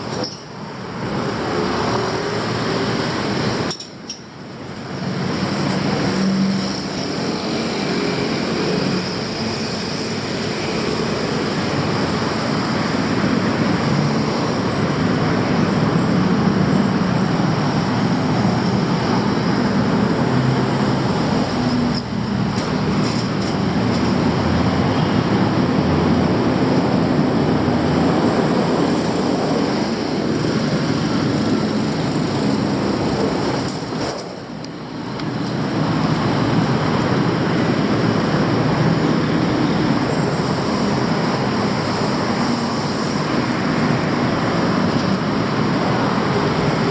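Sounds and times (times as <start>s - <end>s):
city traffic roar: 0.0s - 46.9s.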